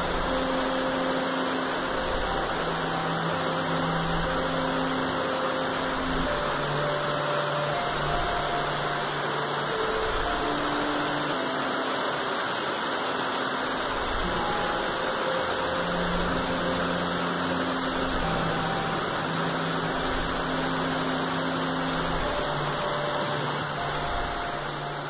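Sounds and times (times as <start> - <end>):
rain falling on foliage: 0.0 - 25.0.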